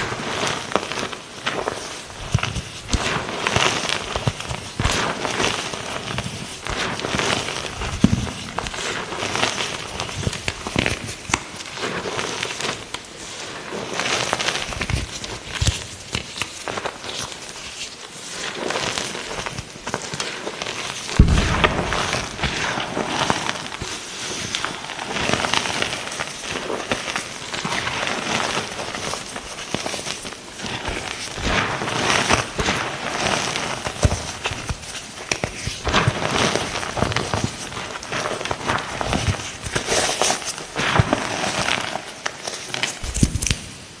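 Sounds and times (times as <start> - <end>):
chalk being crushed: 0.0 - 43.7.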